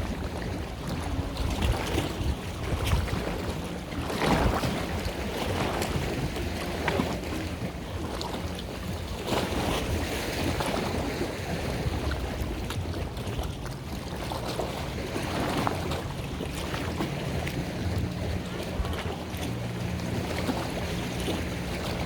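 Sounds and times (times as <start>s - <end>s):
boat engine running: 0.0s - 22.0s
water rushing and splashing: 0.0s - 22.0s
wind buffeting microphone: 0.0s - 22.0s.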